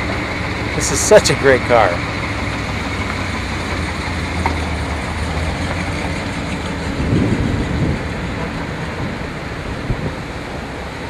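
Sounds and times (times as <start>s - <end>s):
car engine running: 0.0s - 11.0s
road and wind noise: 0.0s - 11.0s.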